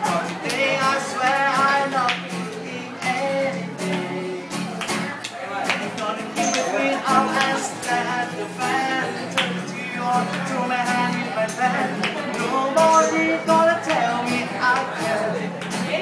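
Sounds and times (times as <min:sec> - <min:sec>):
person singing: 0:00.0 - 0:05.1, 0:05.8 - 0:16.0
acoustic guitar strumming: 0:00.0 - 0:16.0.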